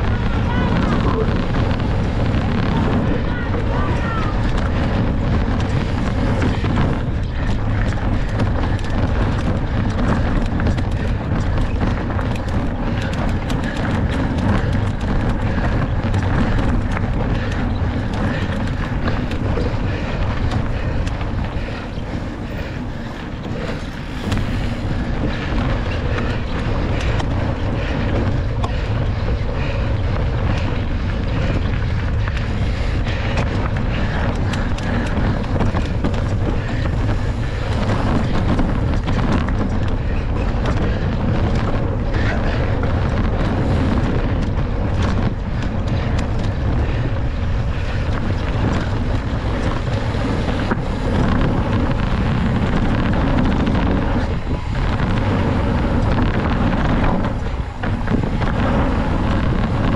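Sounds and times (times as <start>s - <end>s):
bike clicking and rattling: 0.0s - 59.9s
bike tyre noise: 0.0s - 59.9s
wind rushing over microphone: 0.0s - 59.9s.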